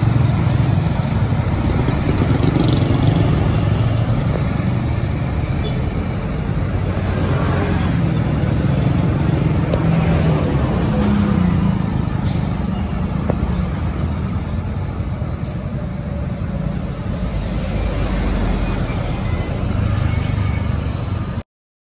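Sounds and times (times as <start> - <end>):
road traffic passing: 0.0 - 21.4.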